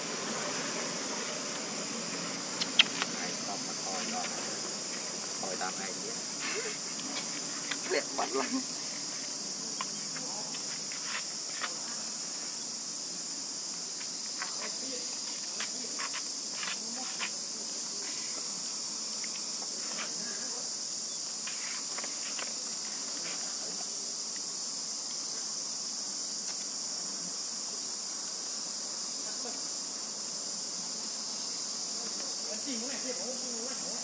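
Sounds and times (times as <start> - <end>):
high-pitched insect chorus: 0.0 - 34.0.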